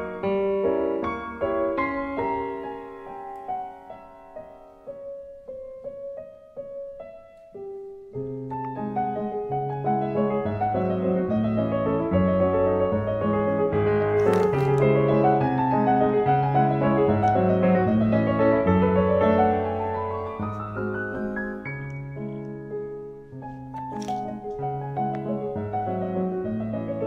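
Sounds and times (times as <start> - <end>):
solo piano music: 0.0 - 27.0.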